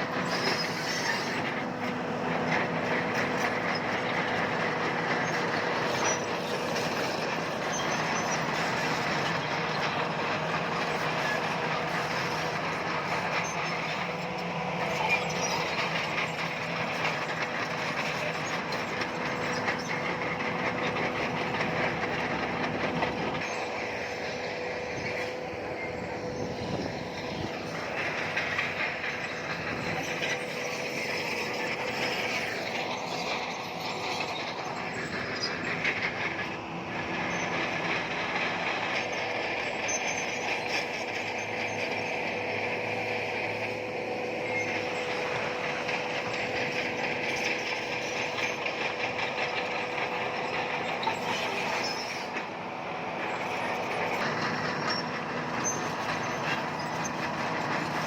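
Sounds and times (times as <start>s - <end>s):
diesel engine running: 0.0s - 58.0s
steel tracks clattering and squealing: 0.0s - 58.0s.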